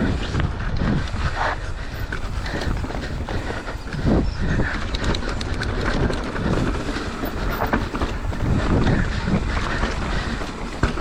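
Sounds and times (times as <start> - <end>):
bike clicks and rattles: 0.0 - 11.0
bike tyre noise: 0.0 - 11.0
wind buffeting microphone: 0.0 - 11.0.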